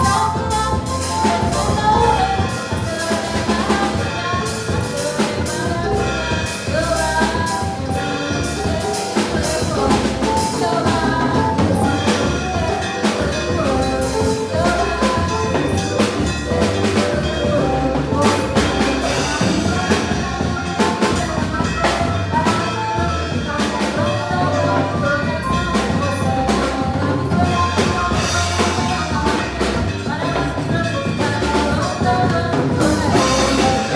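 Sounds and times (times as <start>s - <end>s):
band music: 0.0s - 33.9s
drum kit playing latin groove: 0.0s - 33.9s.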